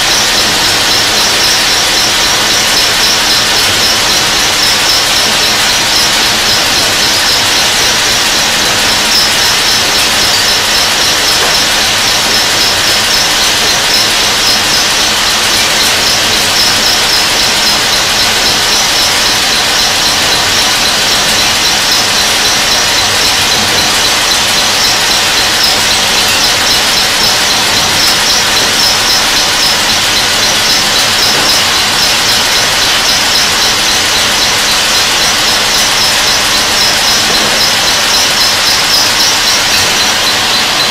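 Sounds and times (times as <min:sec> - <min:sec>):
high-pitched machining squeal: 0:00.0 - 0:40.9
machining noise: 0:00.0 - 0:40.9.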